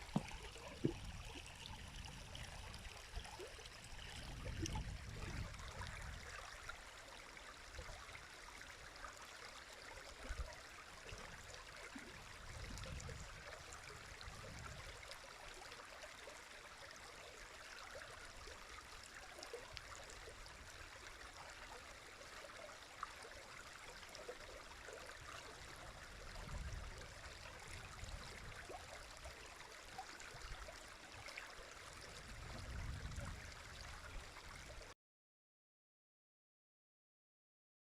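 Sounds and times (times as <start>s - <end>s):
flowing river water: 0.0s - 34.9s.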